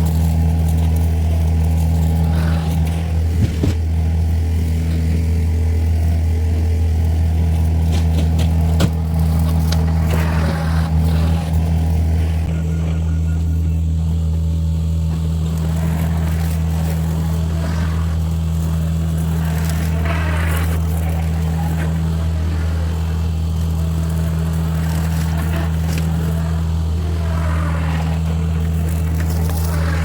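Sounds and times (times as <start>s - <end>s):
brush mower cutting brush: 0.0s - 30.0s
diesel engine running under load: 0.0s - 30.0s.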